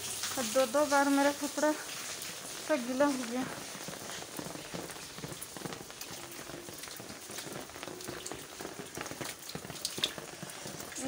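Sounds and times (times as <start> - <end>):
heavy rain on an umbrella: 0.0 - 11.0.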